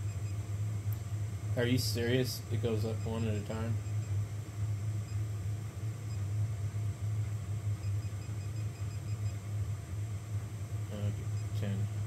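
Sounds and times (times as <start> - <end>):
cooling fans humming: 0.0 - 12.0.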